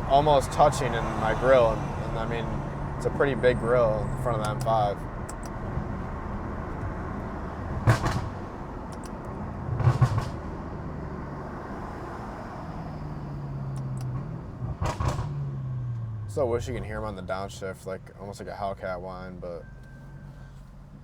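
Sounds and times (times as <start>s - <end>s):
car engine running while driving: 0.0s - 21.0s.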